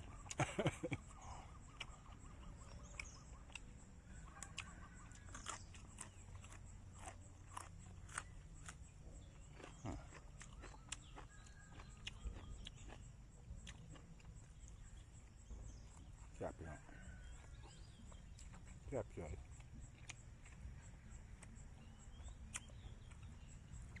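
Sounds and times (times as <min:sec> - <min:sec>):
person chewing: 0:00.0 - 0:24.0
small clicks of eating: 0:00.0 - 0:24.0.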